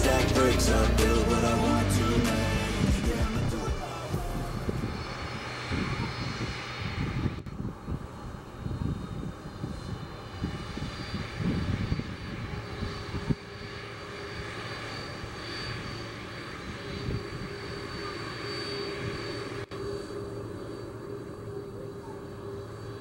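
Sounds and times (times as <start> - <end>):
jet engine high whine: 0.0 - 23.0
jet engine rumble: 0.0 - 23.0.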